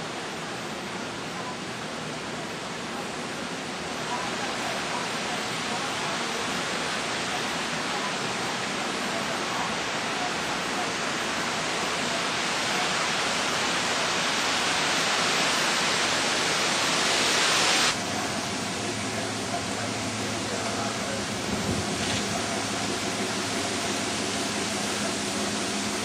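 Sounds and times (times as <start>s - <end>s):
heavy rain and wind rushing: 0.0s - 26.0s.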